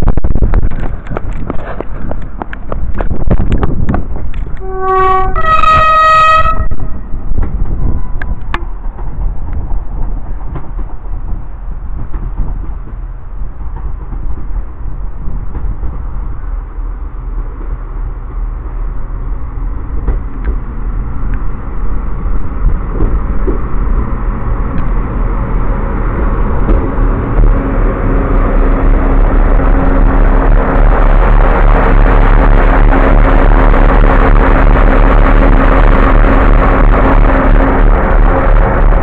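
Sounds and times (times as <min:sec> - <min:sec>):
diesel train engine rumble: 0:00.0 - 0:39.0.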